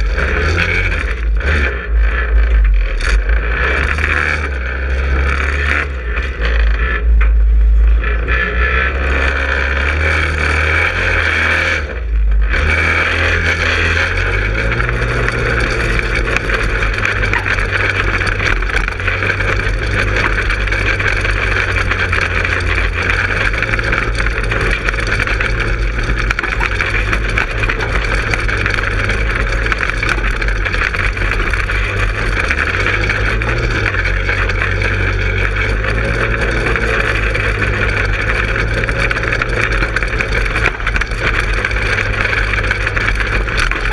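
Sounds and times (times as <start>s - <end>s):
go-kart engine running: 0.0s - 43.9s.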